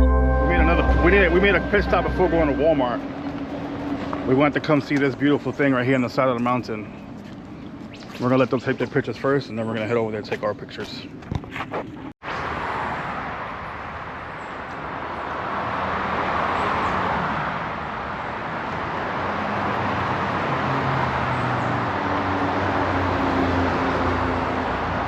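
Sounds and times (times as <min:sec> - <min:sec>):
vehicle engine and tyre noise: 0:02.9 - 0:25.0.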